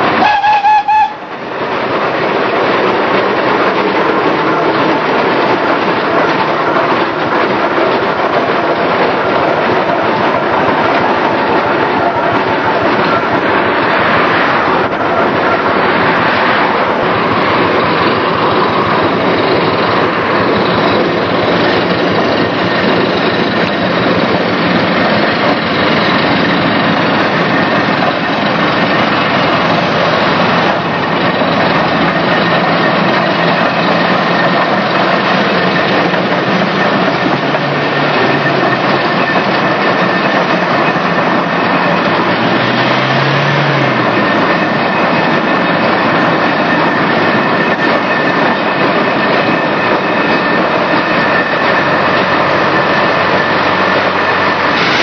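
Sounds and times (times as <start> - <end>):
loud machine noise: 0.0 - 55.0.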